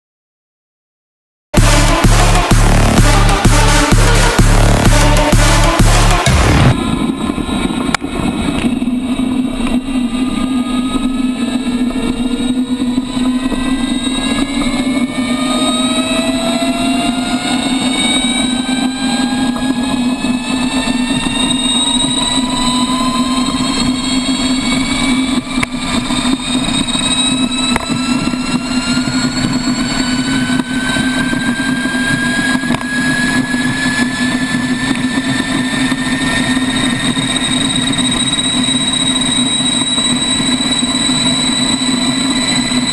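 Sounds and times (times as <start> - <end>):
low drone: 1.6 - 42.9
motorcycle engine accelerating: 1.6 - 42.9.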